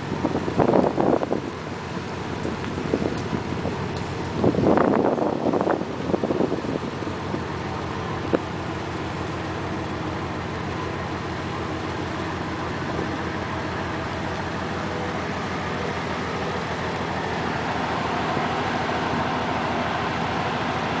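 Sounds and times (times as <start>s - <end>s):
ship engine pulsing: 0.0s - 21.0s.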